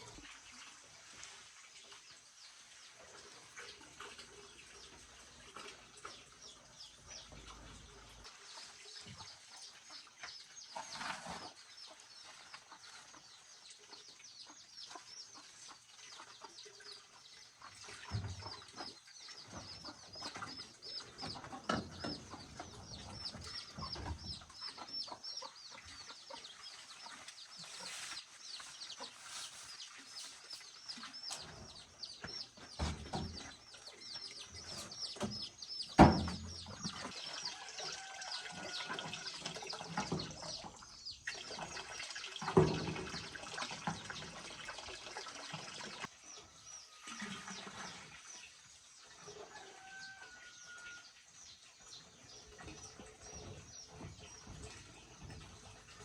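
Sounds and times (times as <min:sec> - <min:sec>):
chickens clucking: 0:01.2 - 0:50.6
birds chirping: 0:01.8 - 0:56.0.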